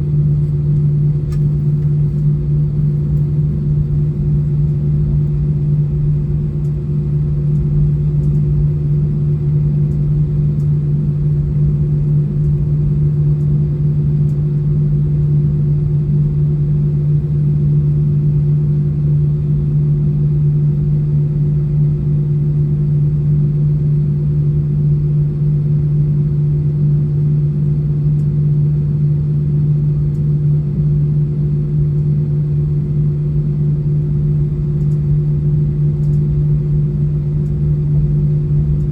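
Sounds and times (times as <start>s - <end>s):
jet engines idling in cabin: 0.0s - 38.9s.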